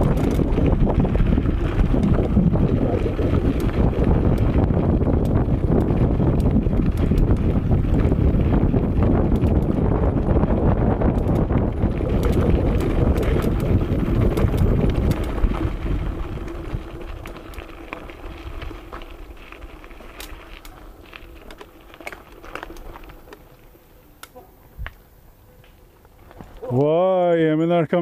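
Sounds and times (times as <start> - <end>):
wind rumble on microphone: 0.0 - 23.3
bike rattling: 0.0 - 28.0
bike tyres crunching on gravel: 0.0 - 28.0.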